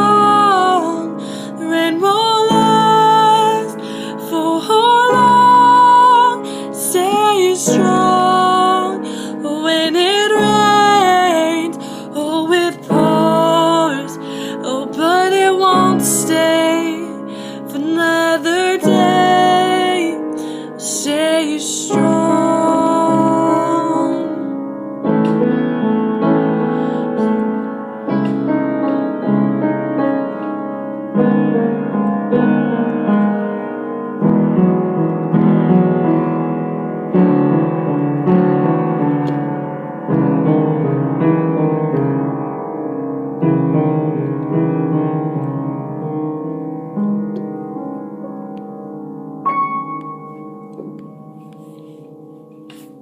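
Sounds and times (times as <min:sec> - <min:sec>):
solo piano chords: 0:00.0 - 0:53.0.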